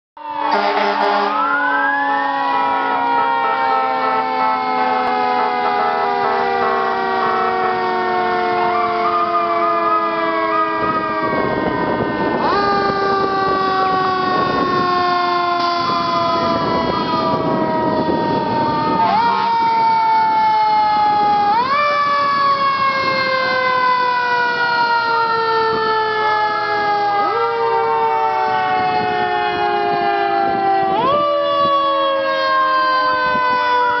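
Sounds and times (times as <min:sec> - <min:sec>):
fire truck siren: 0:00.2 - 0:34.0.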